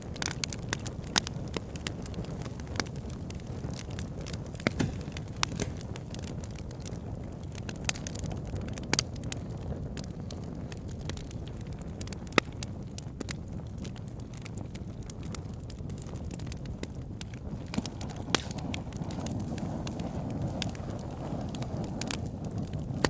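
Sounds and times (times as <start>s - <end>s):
low rumble of fire flames: 0.0s - 23.0s
wood fire crackles and pops: 0.0s - 23.0s.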